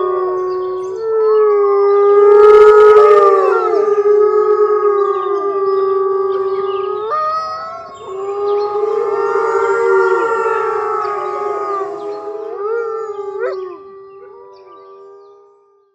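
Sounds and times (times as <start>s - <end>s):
wolves howling in chorus: 0.0s - 15.9s.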